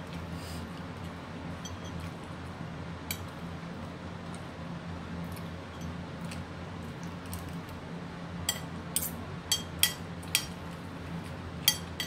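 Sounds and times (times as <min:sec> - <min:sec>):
range hood humming: 0:00.0 - 0:12.0.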